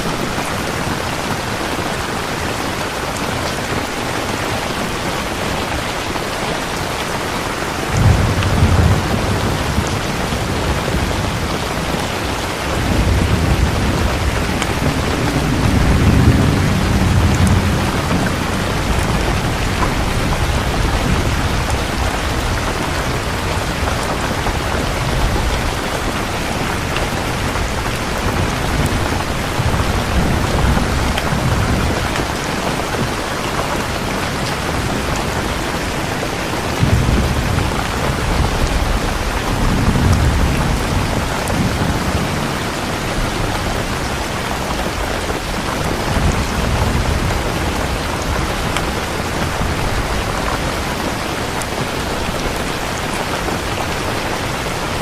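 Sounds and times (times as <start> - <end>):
heavy rain: 0.0 - 55.0
rolling thunder: 7.8 - 36.0, 36.7 - 55.0.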